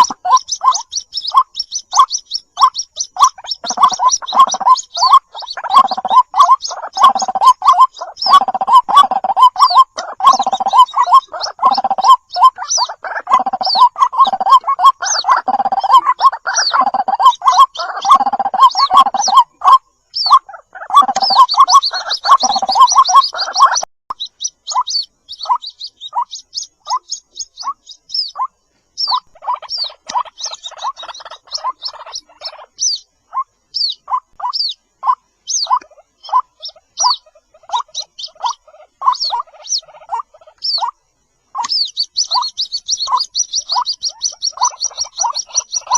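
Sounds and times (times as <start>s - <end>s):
high chirps: 0.0s - 45.9s
waterhen croaking calls: 0.0s - 45.9s.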